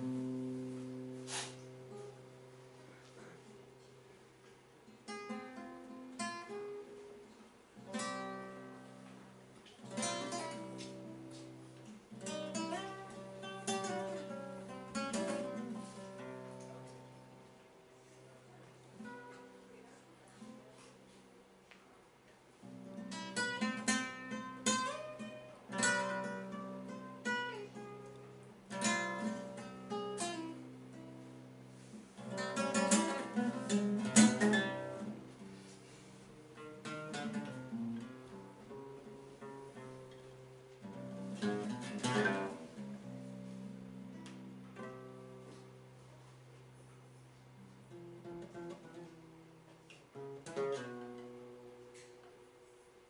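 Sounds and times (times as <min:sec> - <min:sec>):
acoustic guitar: 0:00.0 - 0:53.0.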